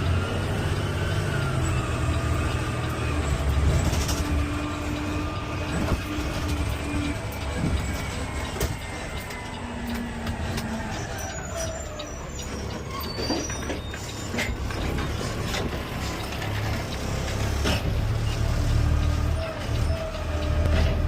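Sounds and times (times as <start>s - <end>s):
faint falling squeals: 0.0s - 16.9s
truck engine rumble: 0.0s - 21.0s.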